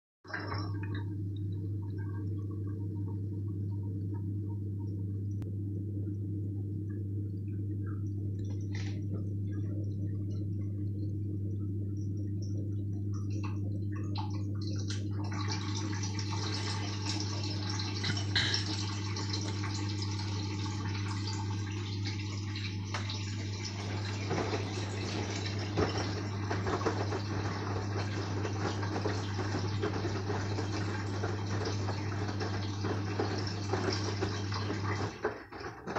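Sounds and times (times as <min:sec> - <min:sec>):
drain pump humming: 0:00.2 - 0:35.9.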